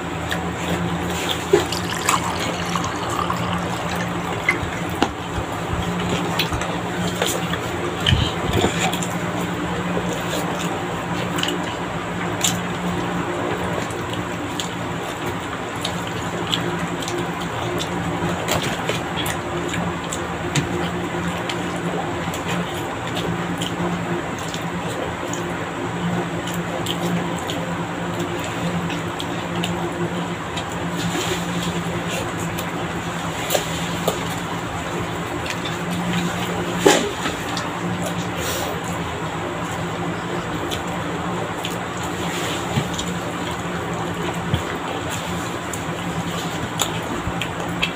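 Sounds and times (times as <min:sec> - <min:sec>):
chewing food: 0:00.1 - 0:13.1, 0:13.8 - 0:47.9.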